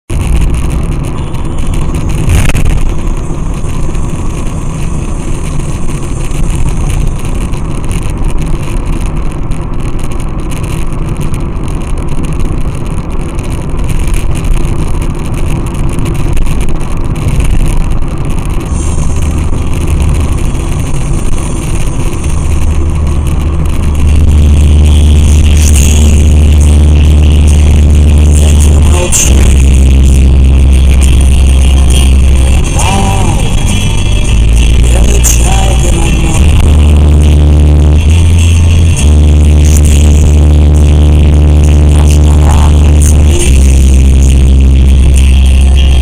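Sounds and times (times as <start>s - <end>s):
deep low hum: 0.0s - 46.0s
vehicle engine and road noise: 0.0s - 46.0s.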